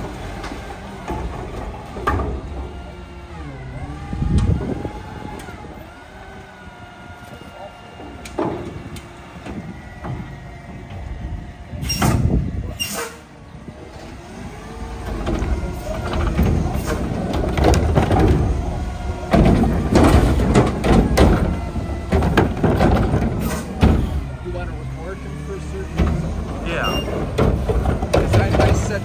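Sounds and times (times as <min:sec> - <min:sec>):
diesel engine and hydraulics: 0:00.0 - 0:29.0.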